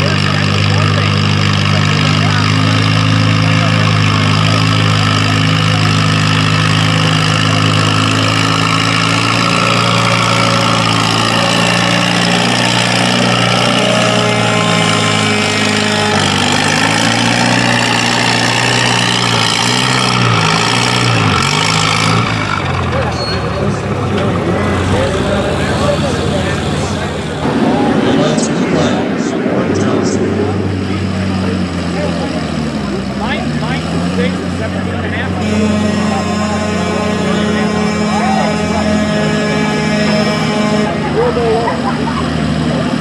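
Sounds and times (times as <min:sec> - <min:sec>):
tractor engine running hard: 0:00.0 - 0:43.0.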